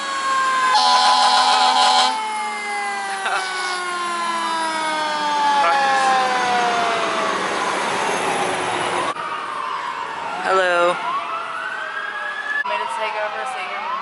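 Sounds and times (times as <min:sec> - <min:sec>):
fire truck siren: 0:00.0 - 0:14.0.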